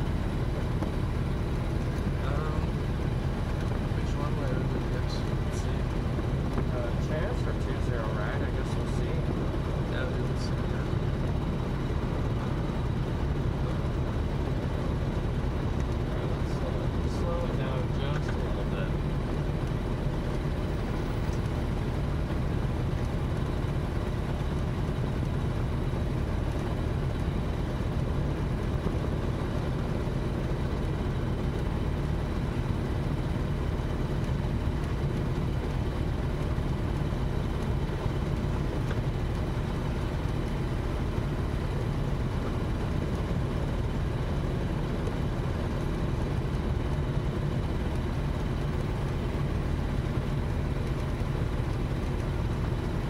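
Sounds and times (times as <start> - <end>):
propeller aircraft engine running: 0.0 - 53.0.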